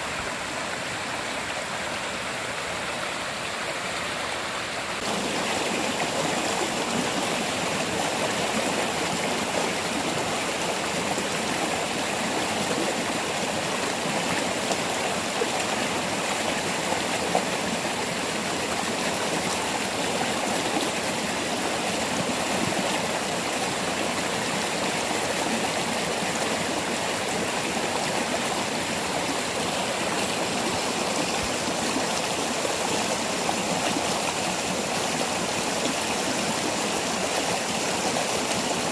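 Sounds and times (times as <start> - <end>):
waterfall pouring over rocks: 0.0 - 38.9.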